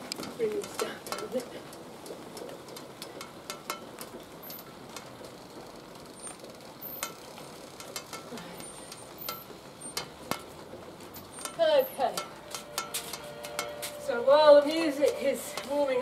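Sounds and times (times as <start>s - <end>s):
water drips and ticks: 0.0s - 13.7s.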